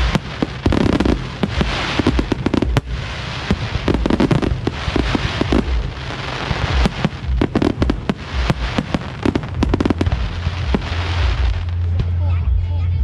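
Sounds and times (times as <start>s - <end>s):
deep fireworks booms: 0.0s - 12.0s
fireworks bangs and crackling: 0.0s - 12.1s.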